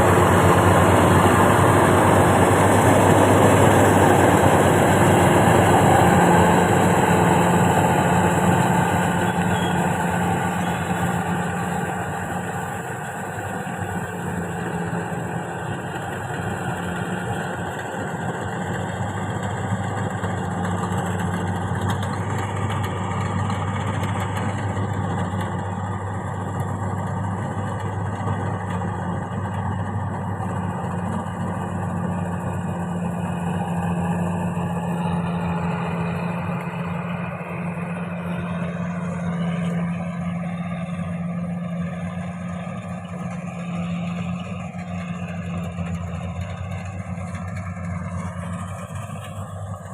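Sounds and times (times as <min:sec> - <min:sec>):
harvester engine running: 0:00.0 - 0:49.9.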